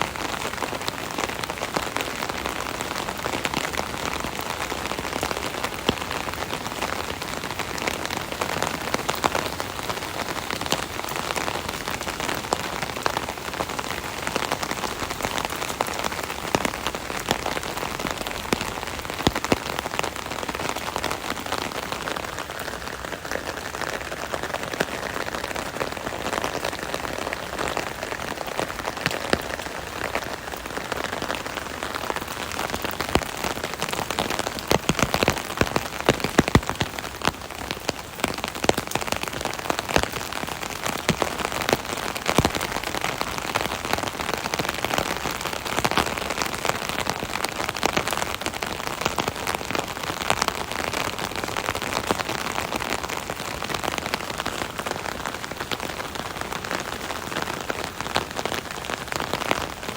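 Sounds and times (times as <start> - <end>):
rain pattering on an umbrella: 0.0 - 59.9.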